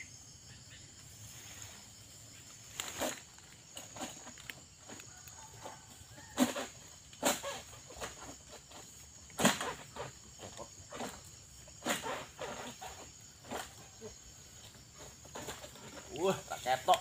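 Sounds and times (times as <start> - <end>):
high insect whine: 0.0 - 17.0
sickle cutting palm fronds: 1.2 - 17.0.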